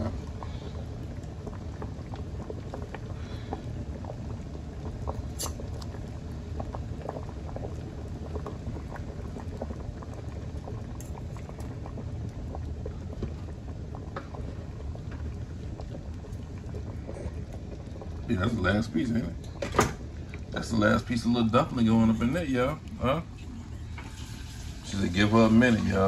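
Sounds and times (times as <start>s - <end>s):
pot boiling and bubbling: 0.0s - 26.0s.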